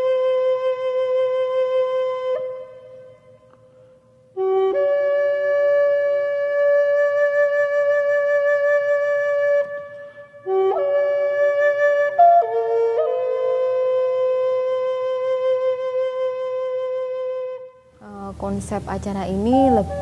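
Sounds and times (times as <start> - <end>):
wind instrument long notes: 0.0 - 20.0.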